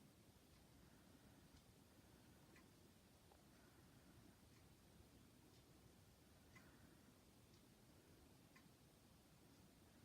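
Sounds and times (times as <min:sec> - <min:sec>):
ceiling fan faint hum: 0:00.0 - 0:10.0
fan faint ticking: 0:00.0 - 0:10.0.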